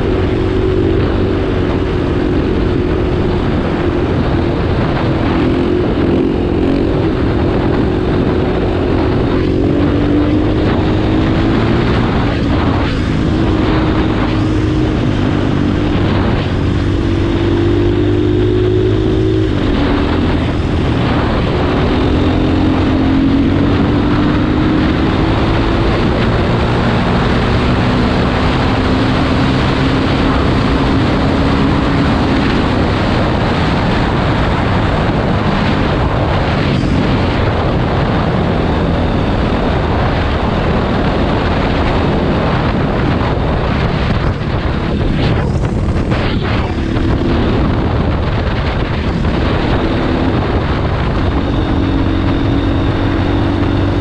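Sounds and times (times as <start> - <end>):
dirt bike engine running: 0.0 - 54.0
wind and road noise: 0.0 - 54.0.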